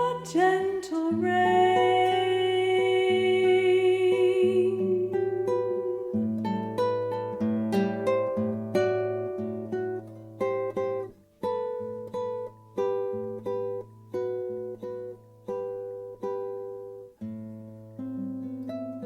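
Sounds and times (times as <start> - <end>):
acoustic guitar bossa nova: 0.0 - 19.0.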